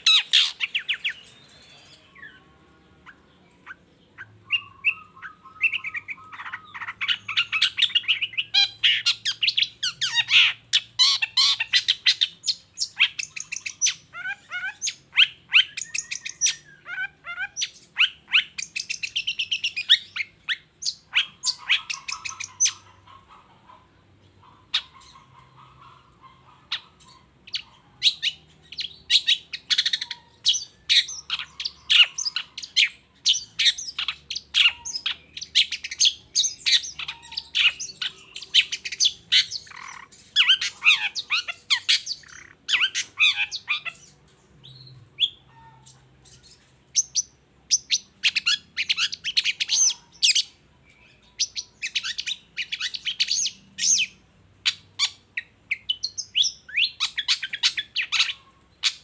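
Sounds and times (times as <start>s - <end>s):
bird singing chirps and trills: 0.0s - 23.4s, 24.1s - 59.0s.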